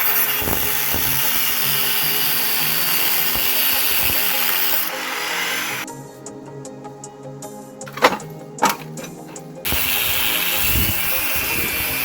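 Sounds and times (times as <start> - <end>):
grinder grinding steel: 0.0 - 5.9, 8.0 - 12.0.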